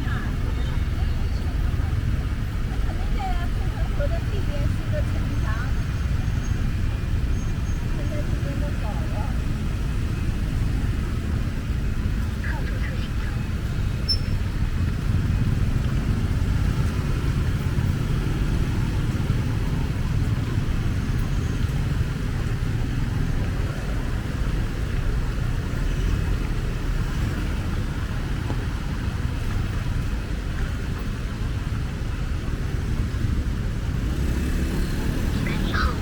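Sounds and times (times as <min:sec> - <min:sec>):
vehicle low rumble: 0:00.0 - 0:36.0.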